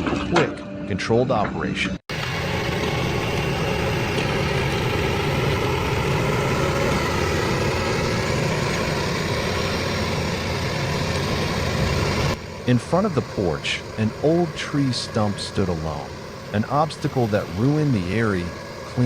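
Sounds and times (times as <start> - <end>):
machine engine running: 2.1 - 19.0.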